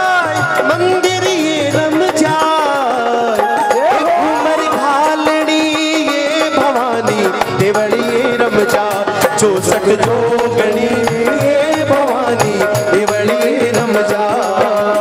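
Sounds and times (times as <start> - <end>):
hand drum beat: 0.0 - 15.0
ornamented melody line: 0.5 - 15.0.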